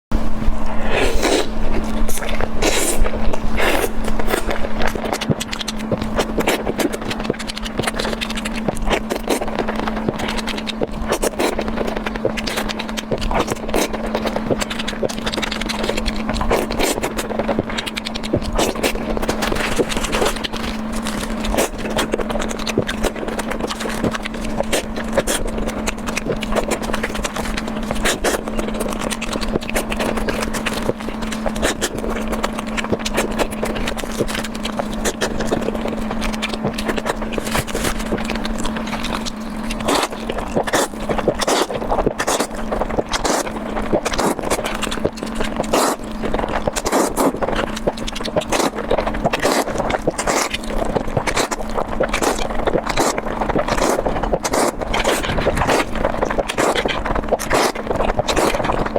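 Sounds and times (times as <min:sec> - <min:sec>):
steady low hum: 0:00.1 - 0:58.9
wet chewing clicks and smacks: 0:00.6 - 0:58.9.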